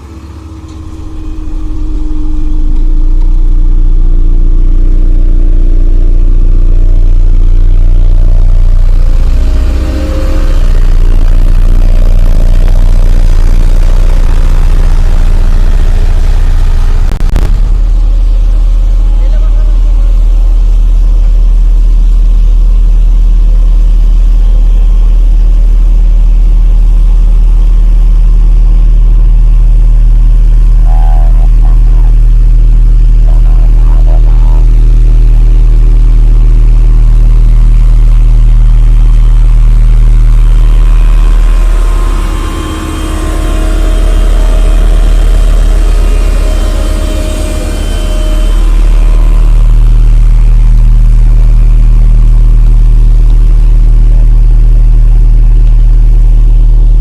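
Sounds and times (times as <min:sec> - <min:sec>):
diesel roller engine humming: 0:00.0 - 0:54.8.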